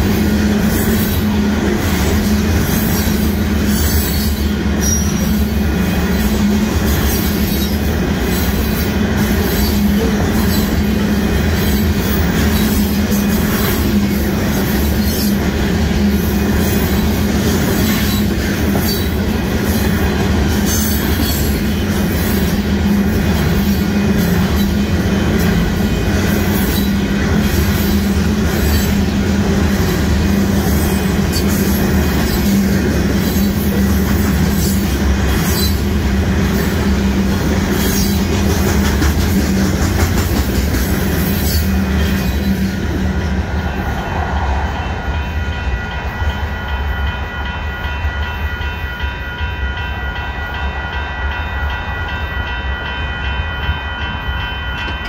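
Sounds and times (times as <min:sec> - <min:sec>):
rumble of train wheels on rail: 0:00.0 - 0:55.0.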